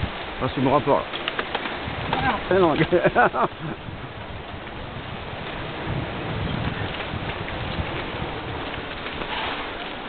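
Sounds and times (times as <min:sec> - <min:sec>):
mountain bike moving: 0:00.0 - 0:10.0
wind rushing: 0:01.7 - 0:10.0.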